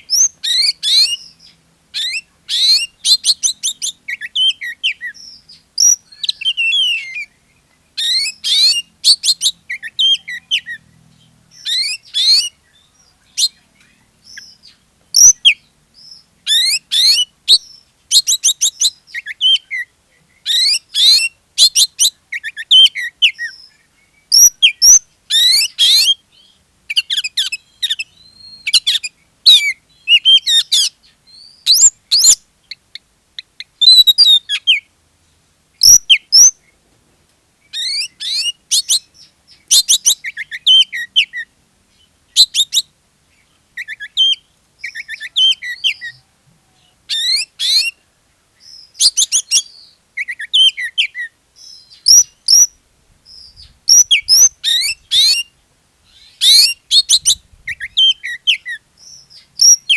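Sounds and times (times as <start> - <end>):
songbird whistles and trills: 0.0 - 34.9, 35.8 - 36.8, 37.6 - 42.9, 43.5 - 59.9.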